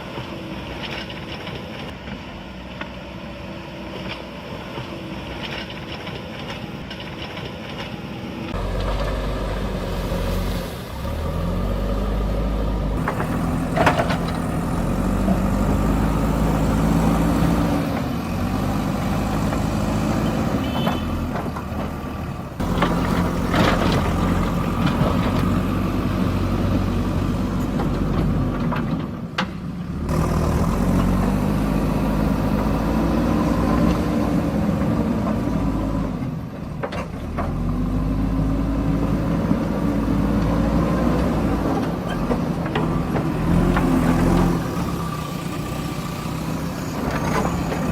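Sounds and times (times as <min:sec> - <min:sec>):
diesel engine revving: 0:08.5 - 0:47.9.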